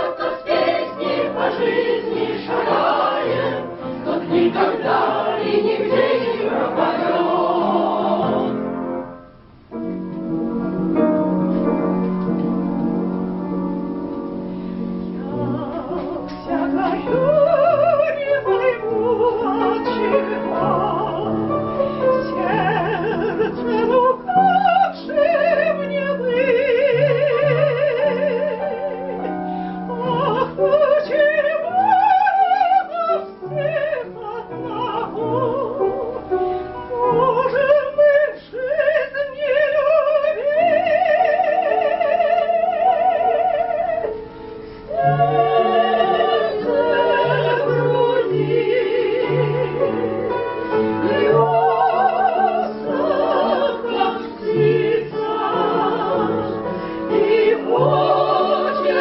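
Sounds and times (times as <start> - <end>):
operatic singing with vibrato: 0.0 - 8.7, 15.1 - 36.0, 36.8 - 44.1, 44.8 - 59.0.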